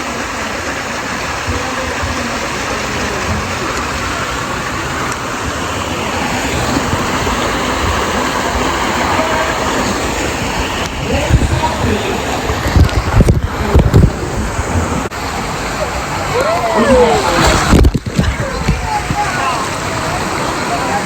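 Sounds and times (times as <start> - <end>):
faint voices: 0.0 - 21.0
steady rushing noise: 0.0 - 21.0.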